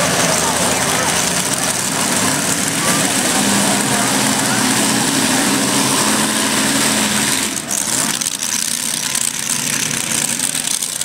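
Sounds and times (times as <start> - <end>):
pulling tractor engines revving: 0.0 - 11.0.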